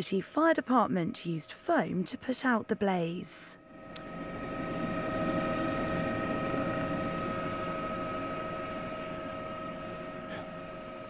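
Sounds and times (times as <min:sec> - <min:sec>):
helicopter cabin drone: 0:00.0 - 0:11.0.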